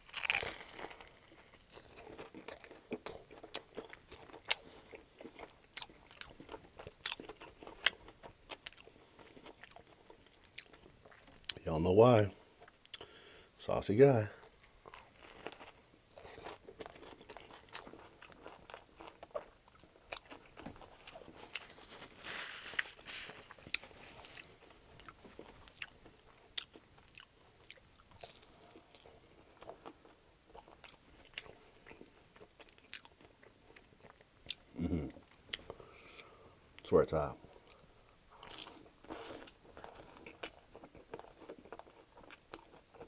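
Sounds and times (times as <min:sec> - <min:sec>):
chewing crusty sandwich: 0:00.0 - 0:11.8, 0:12.4 - 0:13.4, 0:14.3 - 0:43.0.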